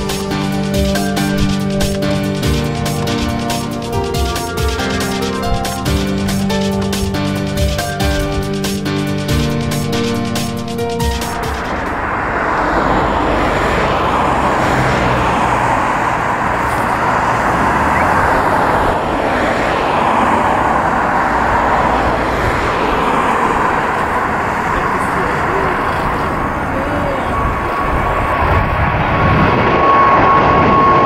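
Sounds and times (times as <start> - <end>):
jet engine whine: 0.0 - 31.0
jet engines roaring: 0.0 - 31.0.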